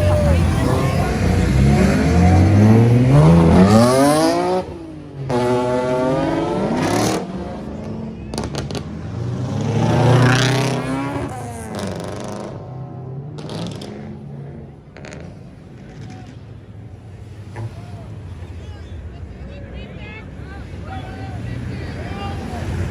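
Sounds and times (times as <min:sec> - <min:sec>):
car engines revving and accelerating: 0:00.0 - 0:19.5, 0:20.2 - 0:22.9.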